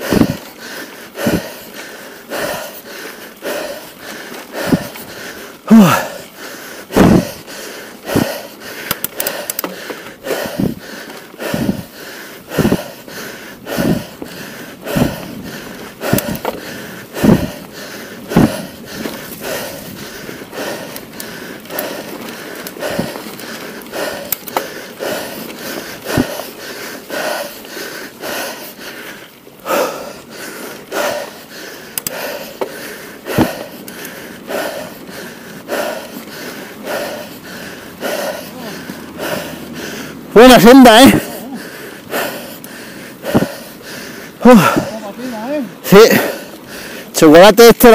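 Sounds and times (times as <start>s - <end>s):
bike clicks and rattles: 0.0s - 40.3s
heavy wheezing breathing: 0.0s - 47.9s.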